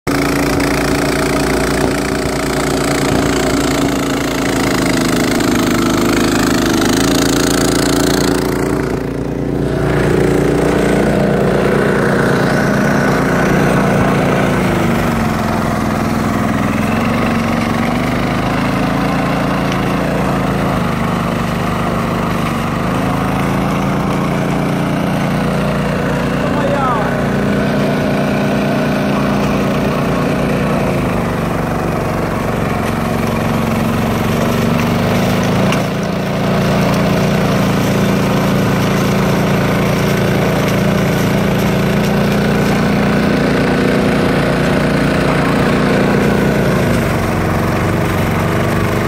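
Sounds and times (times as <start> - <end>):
snowblower engine running: 0.0 - 49.0.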